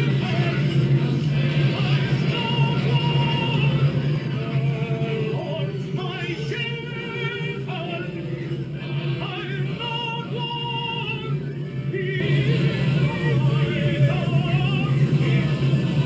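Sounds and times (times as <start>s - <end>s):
high singing voice: 0.0s - 15.6s
low drone: 0.0s - 16.0s.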